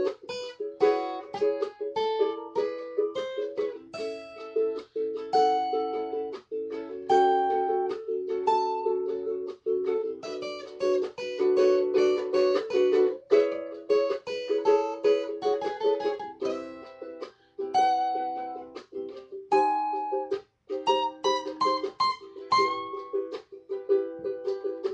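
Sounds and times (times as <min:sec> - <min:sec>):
acoustic string instrument strumming: 0:00.0 - 0:24.9.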